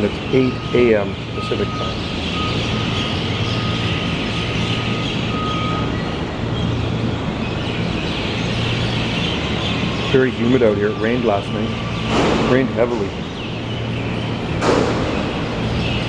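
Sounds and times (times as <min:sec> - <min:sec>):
mynahs chattering: 0:00.0 - 0:14.6
low hum of traffic: 0:00.0 - 0:16.0.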